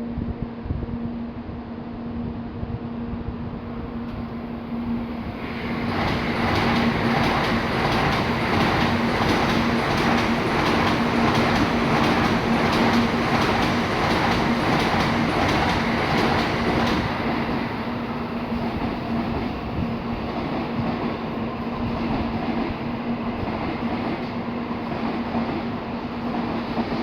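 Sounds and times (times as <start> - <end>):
train rushing rumble: 3.2 - 27.0.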